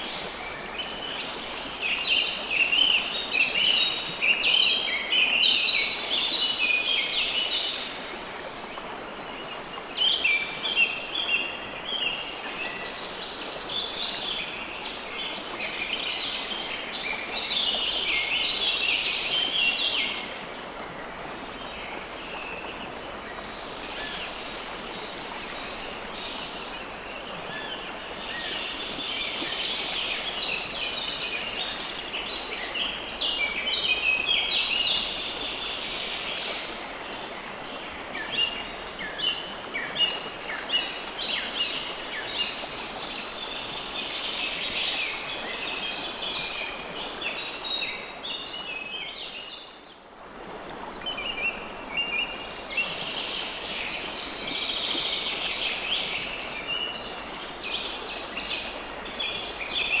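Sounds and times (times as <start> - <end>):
flowing river water: 0.0 - 60.0.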